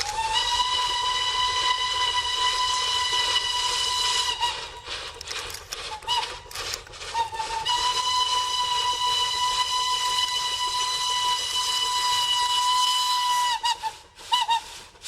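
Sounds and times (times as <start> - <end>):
steam locomotive whistle: 0.0 - 4.9, 5.8 - 15.0.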